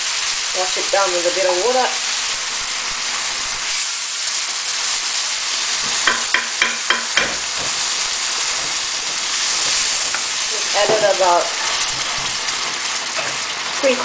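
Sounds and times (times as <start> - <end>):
curry sizzling in a wok: 0.0 - 14.0.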